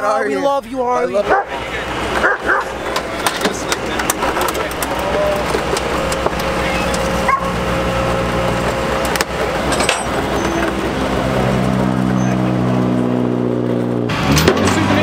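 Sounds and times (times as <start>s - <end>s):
steady multi-tone hum: 0.0s - 12.5s
tow truck engine throbbing: 0.0s - 15.0s.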